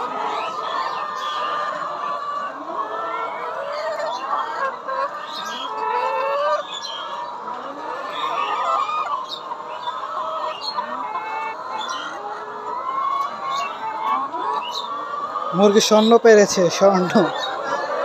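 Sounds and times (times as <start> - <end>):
hens clucking and calling: 0.0 - 18.0.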